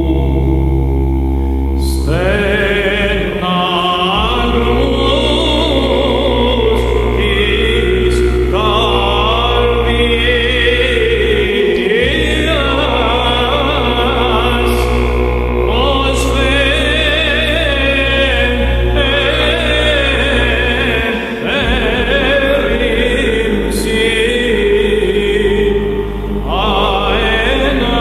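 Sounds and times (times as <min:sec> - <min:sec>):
deep bass vocal drone: 0:00.0 - 0:28.0
person chanting ornamented melody: 0:00.0 - 0:28.0.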